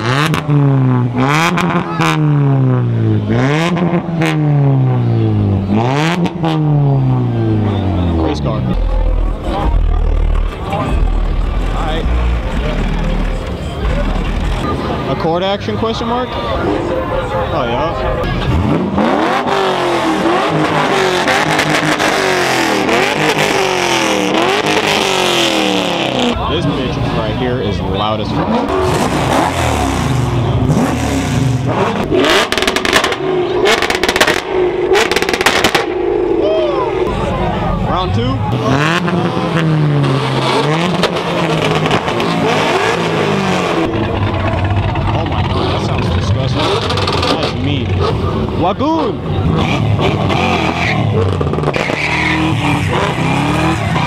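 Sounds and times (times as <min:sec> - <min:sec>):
car engine revving: 0:00.0 - 0:54.0
exhaust crackles: 0:00.0 - 0:54.0.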